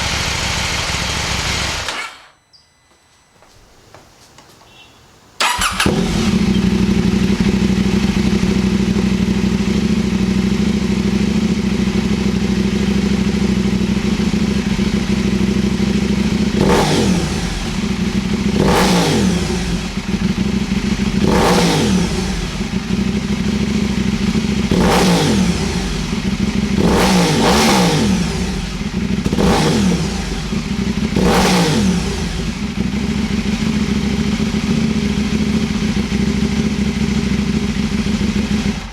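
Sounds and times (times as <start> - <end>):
motorcycle engine idling and revving: 0.0 - 2.1, 5.4 - 38.9
motorcycle throttle blips: 4.3 - 38.9.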